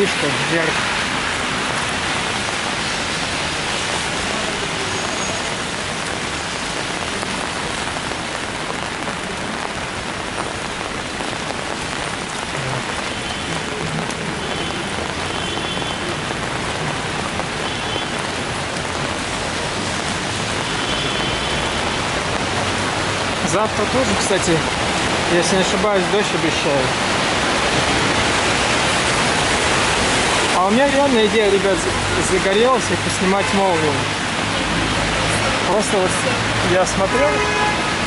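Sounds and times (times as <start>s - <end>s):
rain on an umbrella: 0.0s - 38.0s
car tyres hissing on wet road: 0.1s - 32.2s.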